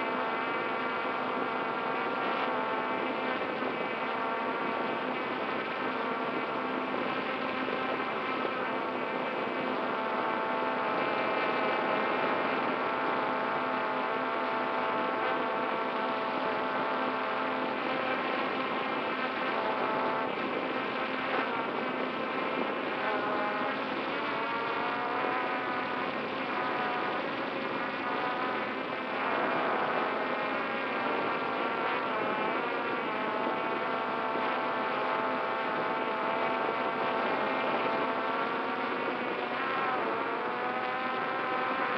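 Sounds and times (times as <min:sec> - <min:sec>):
drone propellers buzzing: 0:00.0 - 0:41.9.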